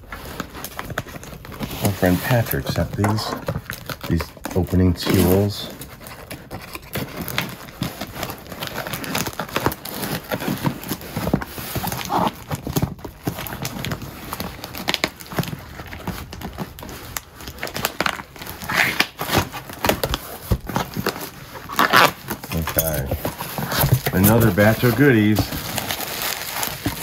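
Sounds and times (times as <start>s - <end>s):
packing tape tearing: 0.0s - 27.0s.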